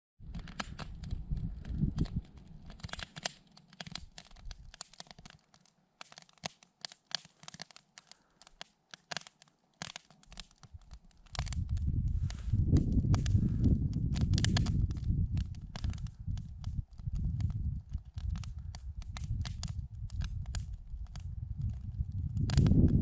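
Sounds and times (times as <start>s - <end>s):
campfire crackling and popping: 0.2s - 23.0s.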